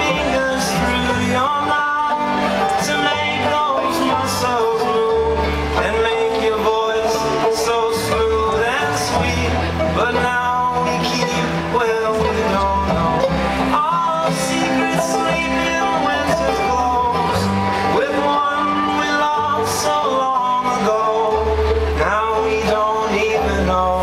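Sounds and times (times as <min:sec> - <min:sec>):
people singing: 0:00.0 - 0:24.0
strummed acoustic string instrument: 0:00.0 - 0:24.0
upright bass: 0:00.0 - 0:24.0.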